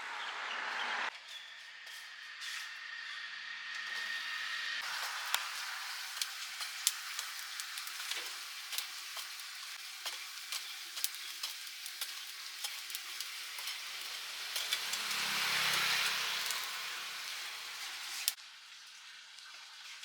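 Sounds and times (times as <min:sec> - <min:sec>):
meat sizzling over charcoal: 0:03.9 - 0:20.0.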